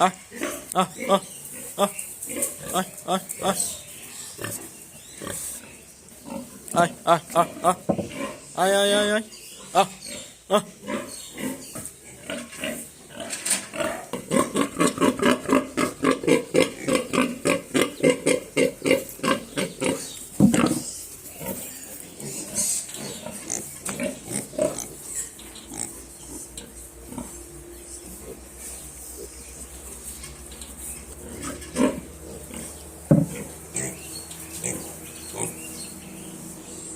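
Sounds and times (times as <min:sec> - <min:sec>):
pigs grunting: 0:00.0 - 0:36.9.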